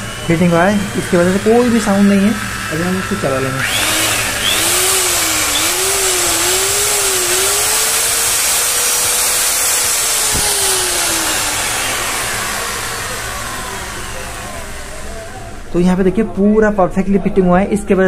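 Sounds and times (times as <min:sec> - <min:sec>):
angle grinder motor whine: 0:00.0 - 0:15.8.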